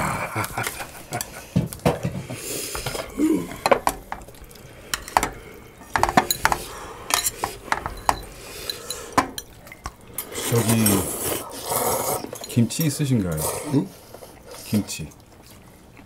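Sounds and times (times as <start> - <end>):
utensils clinking against bowls: 0.4 - 15.2.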